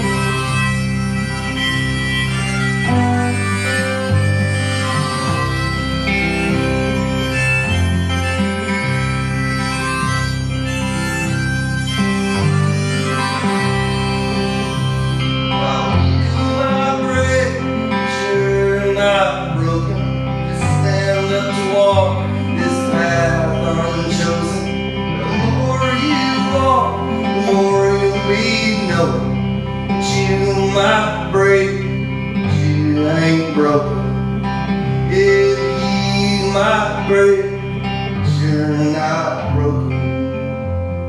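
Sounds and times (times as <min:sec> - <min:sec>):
harmonica: 0:00.0 - 0:41.0
strummed acoustic guitar: 0:00.0 - 0:41.0.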